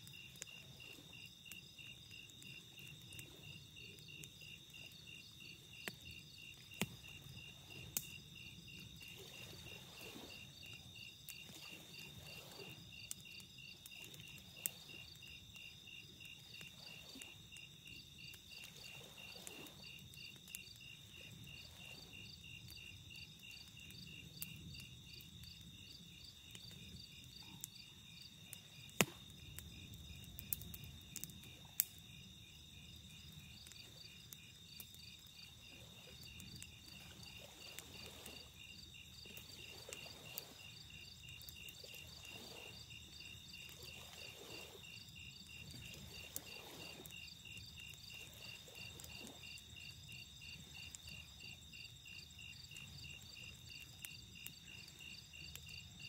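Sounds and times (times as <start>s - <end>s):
campfire crackling: 0.0s - 56.0s
crickets chirping: 0.0s - 56.0s.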